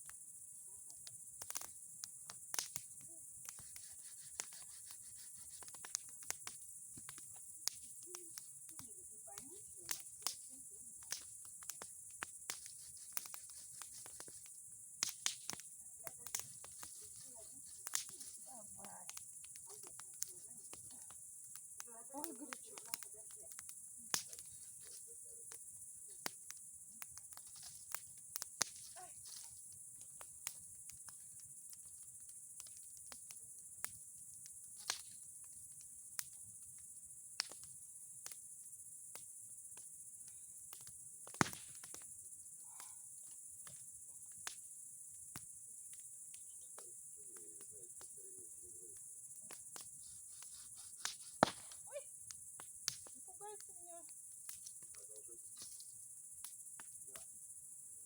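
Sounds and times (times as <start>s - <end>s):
bonfire crackling and popping: 0.0s - 58.0s
crickets chirring: 0.0s - 58.0s.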